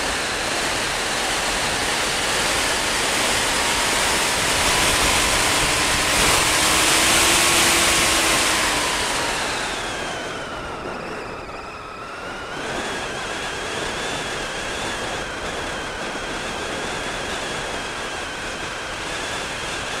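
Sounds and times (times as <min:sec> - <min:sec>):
thin motor whine: 0:00.0 - 0:20.0
wind rushing over microphone: 0:00.0 - 0:20.0.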